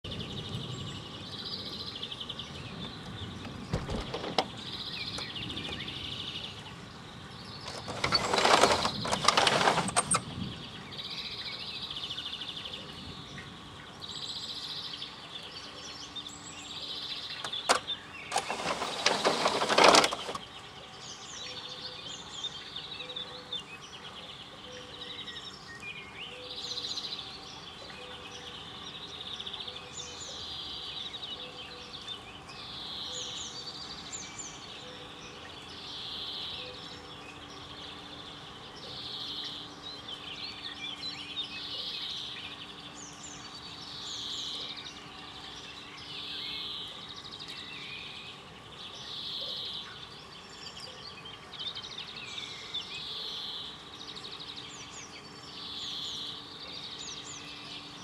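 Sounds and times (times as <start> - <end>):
birds chirping: 0.0 - 58.0
outdoor background noise: 0.0 - 58.0.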